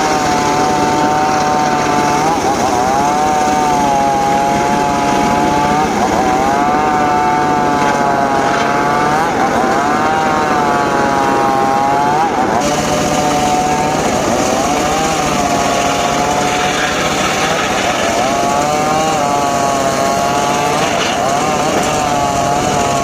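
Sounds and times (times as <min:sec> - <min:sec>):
circular saw cutting wood: 0:00.0 - 0:23.0.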